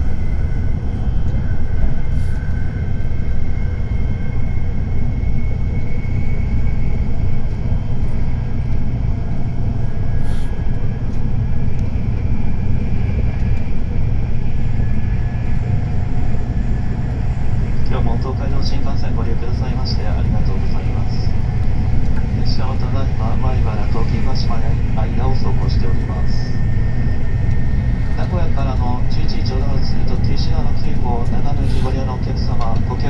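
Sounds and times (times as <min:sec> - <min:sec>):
faint high whine: 0:00.0 - 0:33.0
train running rumble: 0:00.0 - 0:33.0.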